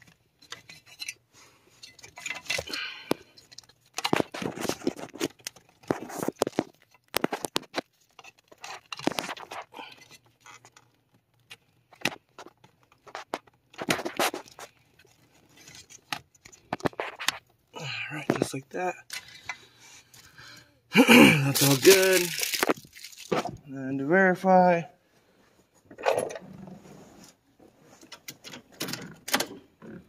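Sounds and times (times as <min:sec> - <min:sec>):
wiring harness rustling and scraping: 0:00.0 - 0:20.6, 0:21.3 - 0:24.2, 0:25.2 - 0:29.6.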